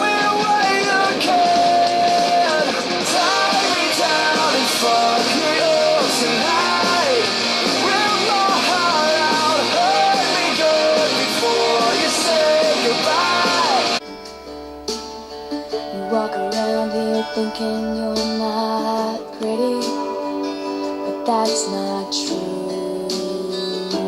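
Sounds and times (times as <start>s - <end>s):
man singing lead vocal: 0.0s - 14.0s, 15.9s - 20.3s, 21.3s - 24.0s
rock band guitars and drums: 0.0s - 24.0s.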